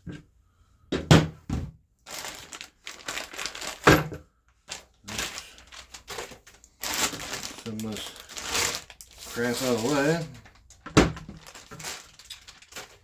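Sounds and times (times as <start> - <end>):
packing material crinkling: 2.1 - 13.0.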